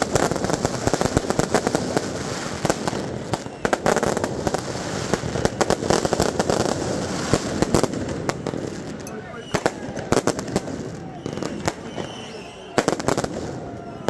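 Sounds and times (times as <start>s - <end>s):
firecrackers banging and cracking: 0.0s - 14.0s.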